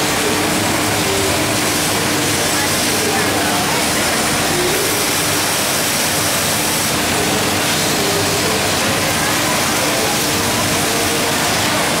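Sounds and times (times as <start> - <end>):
steady workshop machinery rushing: 0.0 - 12.0.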